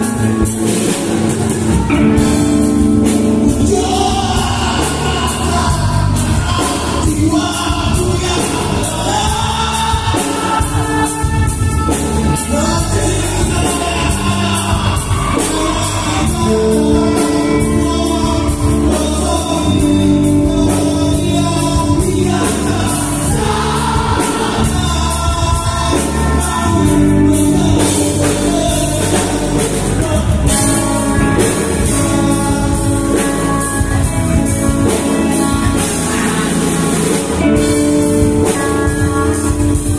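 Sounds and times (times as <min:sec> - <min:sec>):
drums: 0:00.0 - 0:39.9
electric guitar: 0:00.0 - 0:39.9
person singing: 0:00.0 - 0:39.9.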